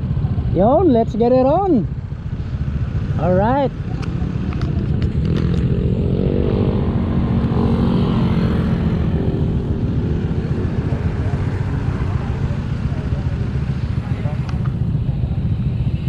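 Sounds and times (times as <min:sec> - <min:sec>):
motorcycle engine accelerating: 0:00.0 - 0:16.0
wind and road rumble: 0:00.0 - 0:16.0.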